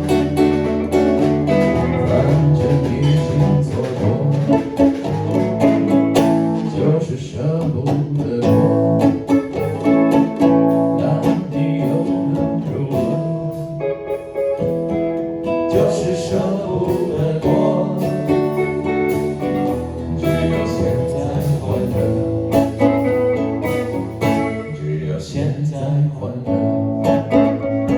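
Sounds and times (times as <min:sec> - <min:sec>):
acoustic and electric guitars: 0:00.0 - 0:27.9.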